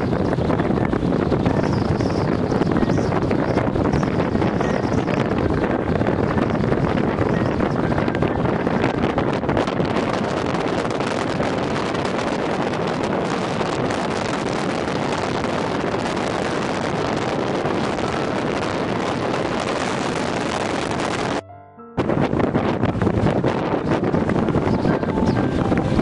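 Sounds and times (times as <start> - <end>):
wind buffeting microphone: 0.0 - 21.4, 22.0 - 26.0.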